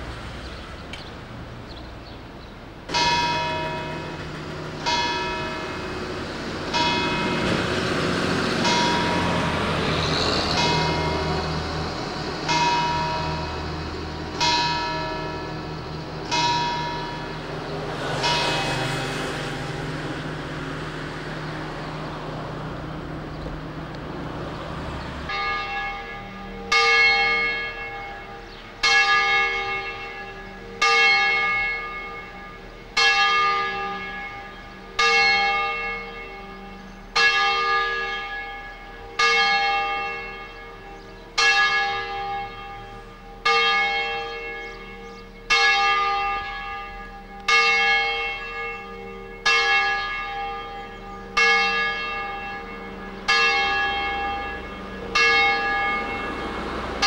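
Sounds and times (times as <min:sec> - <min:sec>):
church bell tolling: 0:02.9 - 0:57.0.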